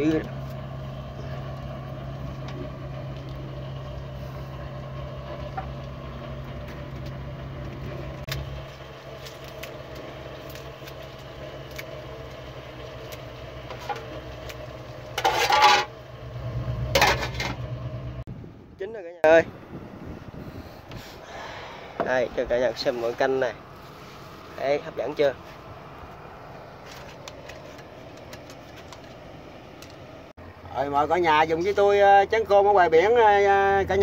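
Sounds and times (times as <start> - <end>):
engine idling hum: 0.0 - 34.0.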